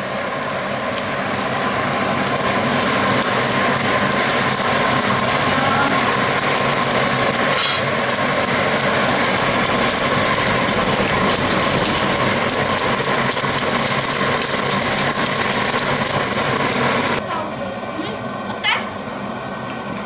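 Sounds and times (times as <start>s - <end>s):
electric air blower droning: 0.0s - 20.0s.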